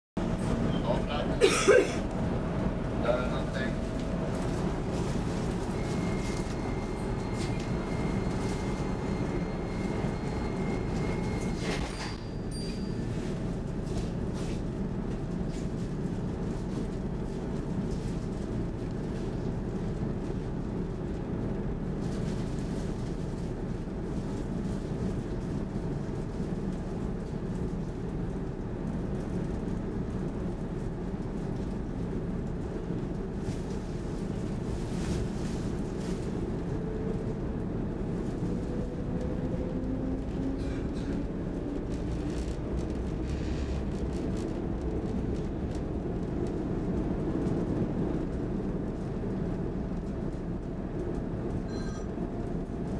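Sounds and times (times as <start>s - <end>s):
train equipment hum: 0.2s - 52.9s.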